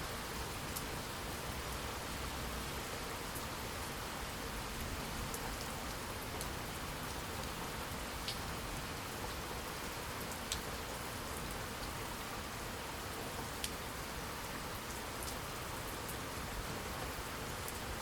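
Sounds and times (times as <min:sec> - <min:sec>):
steady rain hiss: 0:00.0 - 0:18.0
raindrops ticking close by: 0:03.2 - 0:18.0.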